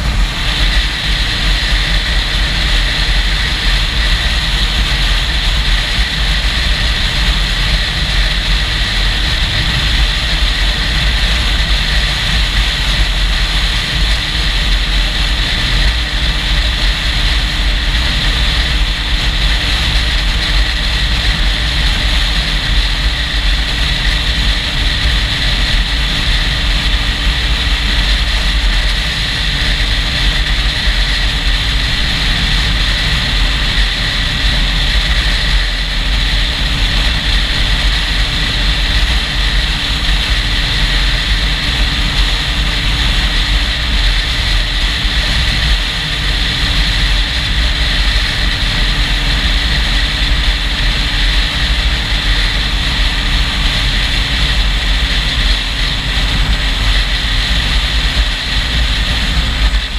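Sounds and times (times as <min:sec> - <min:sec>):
motorcycle engine hum: 0:00.0 - 0:59.9
road hiss: 0:00.0 - 0:59.9
wind buffeting microphone: 0:00.0 - 0:59.9.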